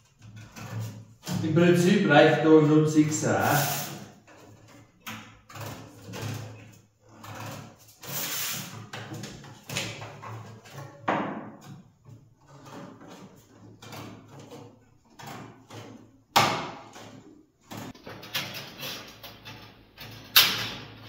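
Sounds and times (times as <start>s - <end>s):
metal sheet rattling: 0.0s - 11.0s, 12.5s - 21.0s.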